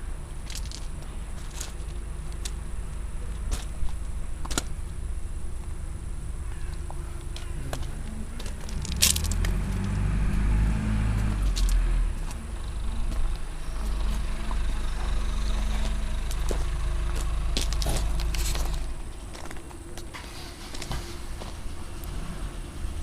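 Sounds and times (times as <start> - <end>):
diesel engine low rumble: 0.0 - 23.0.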